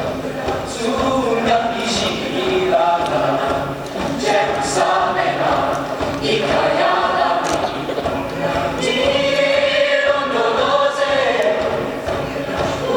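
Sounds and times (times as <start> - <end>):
choir singing: 0.0 - 12.9.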